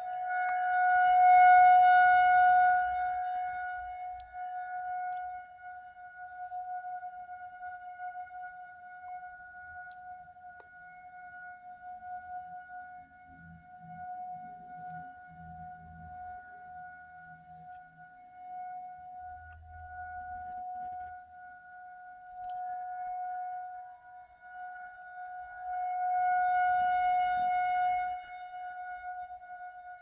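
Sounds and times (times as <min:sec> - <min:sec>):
warning siren steady tone: 0:00.0 - 0:30.0.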